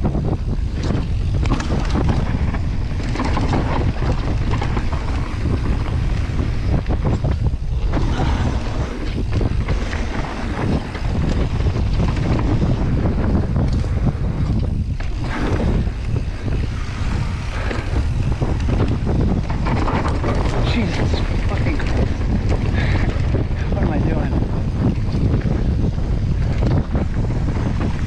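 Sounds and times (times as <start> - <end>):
bike knocking and rattling: 0.0 - 28.0
tyres rumbling on dirt: 0.0 - 28.0
wind buffeting microphone: 0.0 - 28.0.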